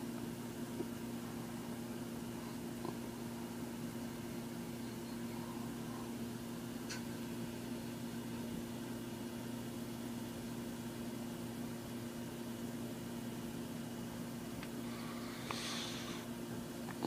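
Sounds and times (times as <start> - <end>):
computer fan and drive hum: 0.0 - 17.0.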